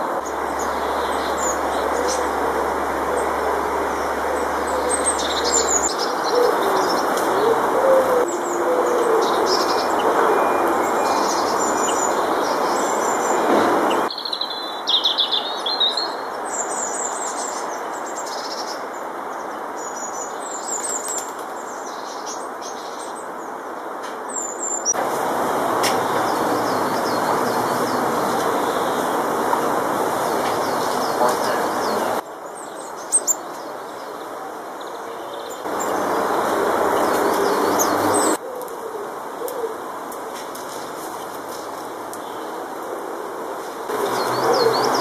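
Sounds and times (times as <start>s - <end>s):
small birds chirping: 0.0s - 23.5s, 25.8s - 38.4s, 43.9s - 45.0s
steady background noise: 0.0s - 45.0s.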